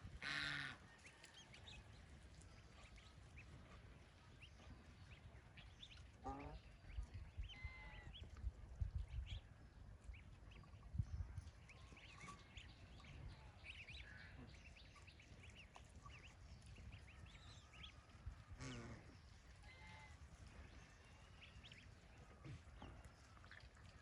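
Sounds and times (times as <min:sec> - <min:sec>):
ducklings peeping: 0:00.1 - 0:24.0.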